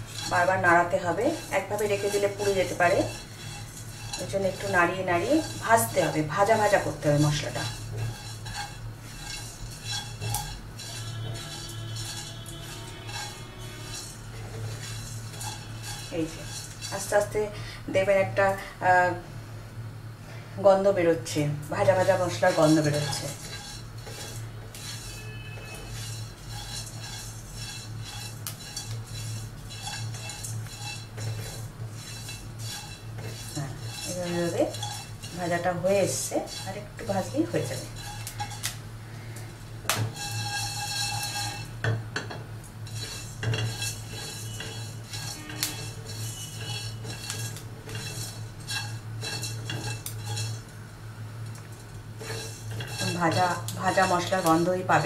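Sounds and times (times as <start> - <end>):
spatula scraping pan: 0.0 - 17.6, 21.7 - 50.8, 51.7 - 55.0
steady low hum: 0.0 - 55.0.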